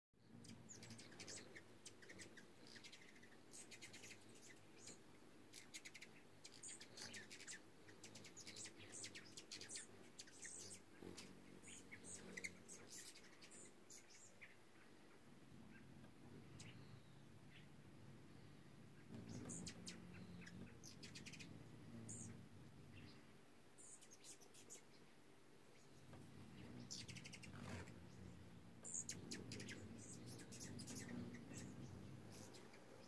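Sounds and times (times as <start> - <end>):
hummingbirds chipping and twittering: 0.2 - 33.0.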